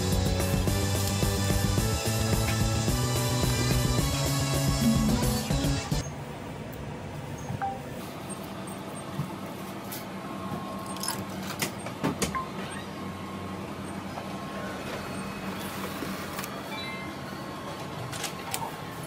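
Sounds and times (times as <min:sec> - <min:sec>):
copier humming: 0:00.0 - 0:19.0.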